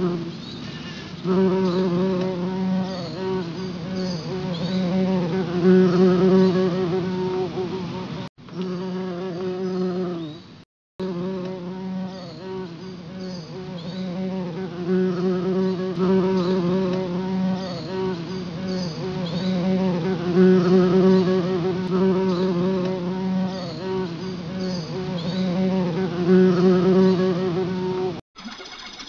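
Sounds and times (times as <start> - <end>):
swarm of bees buzzing: 1.2 - 10.3, 13.7 - 28.2.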